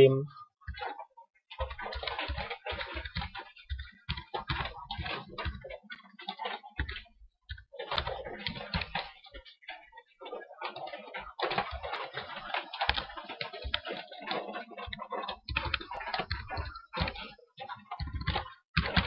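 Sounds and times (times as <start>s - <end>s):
keyboard typing: 0.6s - 9.4s, 10.3s - 19.0s.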